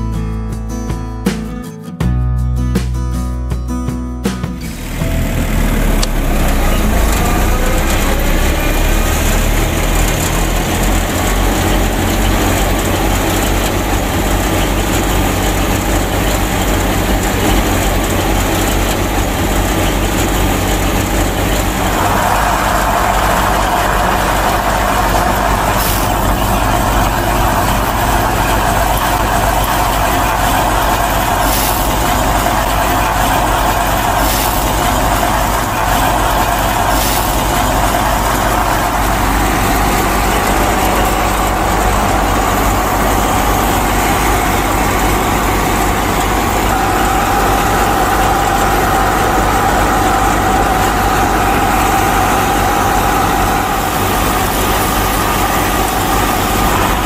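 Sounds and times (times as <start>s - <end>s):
high whir: 4.6s - 57.0s
miniature tractor engine running: 4.6s - 57.0s
rising machine whine: 4.6s - 57.0s.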